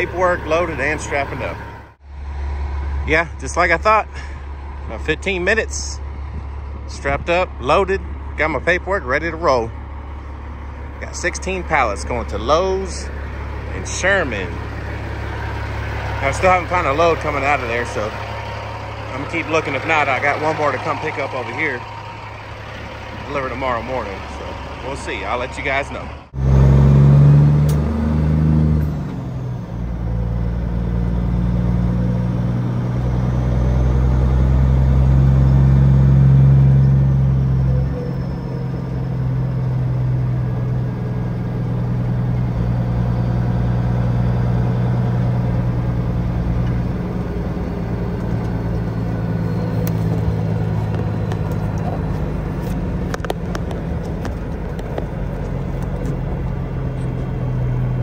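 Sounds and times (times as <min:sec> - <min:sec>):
truck diesel engine drone: 0:00.0 - 0:58.0.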